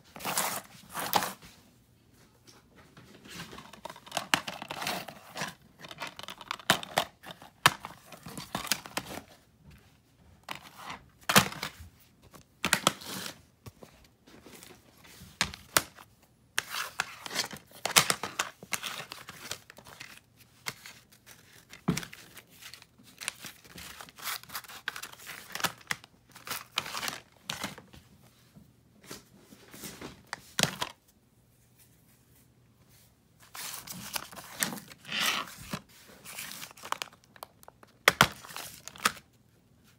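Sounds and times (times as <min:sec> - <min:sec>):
paper rustling and crinkling: 0:02.8 - 0:28.0, 0:32.9 - 0:39.9.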